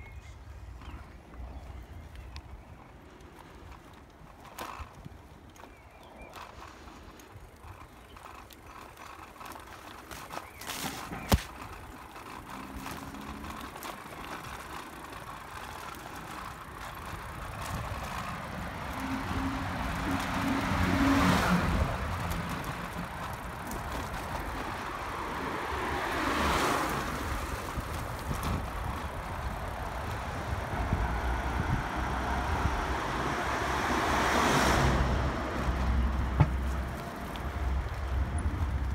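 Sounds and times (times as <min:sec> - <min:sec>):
cars passing: 0:00.4 - 0:38.9.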